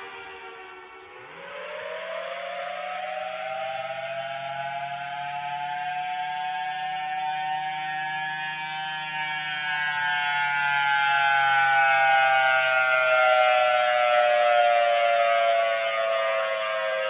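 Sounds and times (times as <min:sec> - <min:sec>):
air raid siren: 0:00.0 - 0:17.0.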